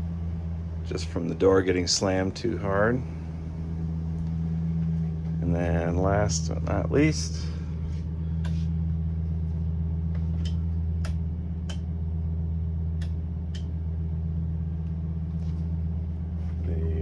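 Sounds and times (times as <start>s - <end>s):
motorhome engine idling: 0.0s - 17.0s.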